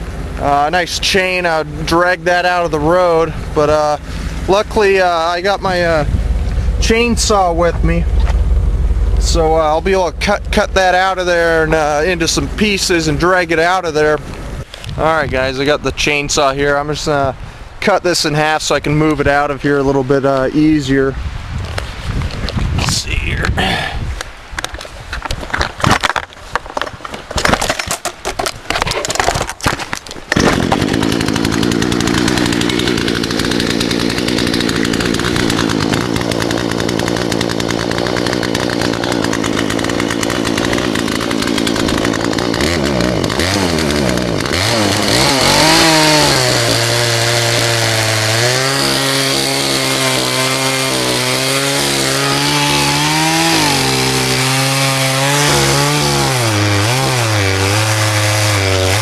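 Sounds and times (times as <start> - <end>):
chainsaw cutting wood: 0.0 - 14.6, 25.5 - 59.0.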